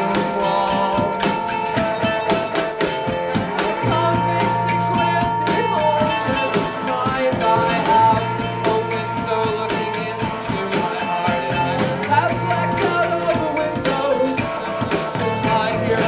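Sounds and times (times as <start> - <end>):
person singing: 0.0 - 16.0
rock band playing live: 0.0 - 16.0
steady drum beat: 0.0 - 16.0.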